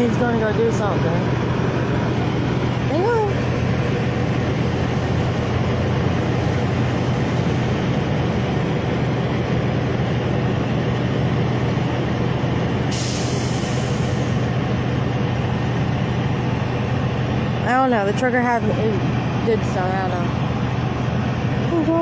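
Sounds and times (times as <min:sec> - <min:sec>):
truck engines idling: 0:00.0 - 0:22.0.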